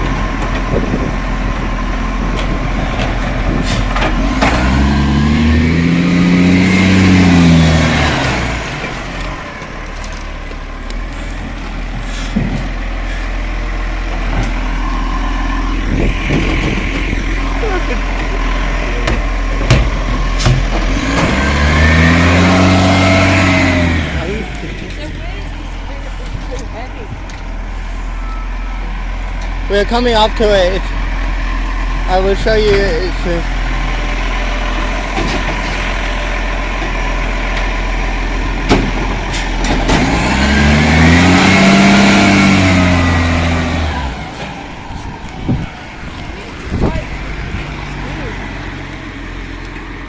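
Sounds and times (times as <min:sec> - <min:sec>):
vehicle engine accelerating: 0:00.0 - 0:50.0.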